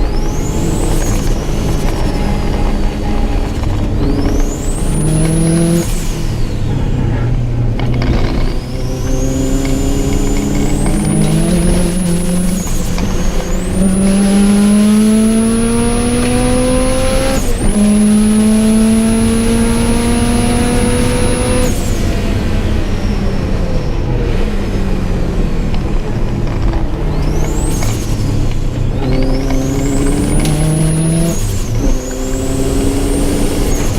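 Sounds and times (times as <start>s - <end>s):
car engine accelerating hard: 0.0s - 33.9s.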